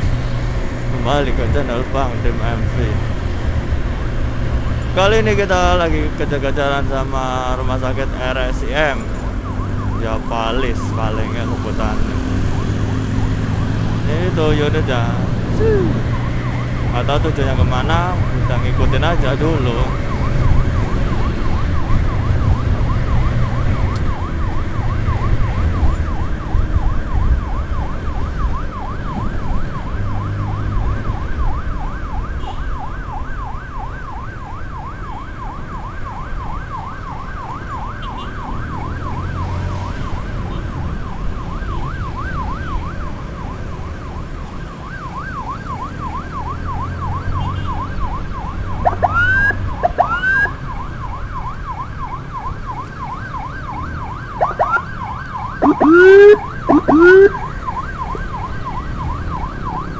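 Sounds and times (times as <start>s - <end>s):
motorcycle engine and road rumble: 0.0s - 59.9s
emergency siren yelping: 8.3s - 59.9s.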